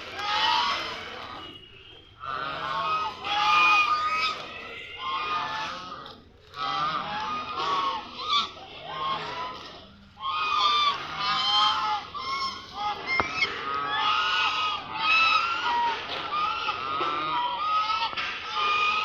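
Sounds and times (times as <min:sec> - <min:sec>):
flock of ducks calling: 0:00.0 - 0:19.0.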